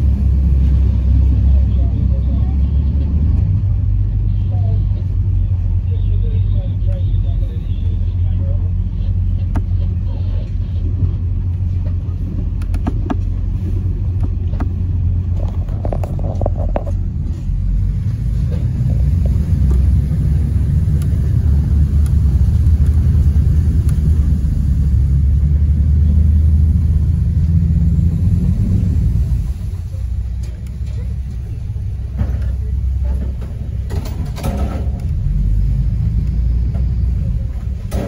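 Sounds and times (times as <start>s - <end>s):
boat engine and hull rumble: 0.0s - 38.0s.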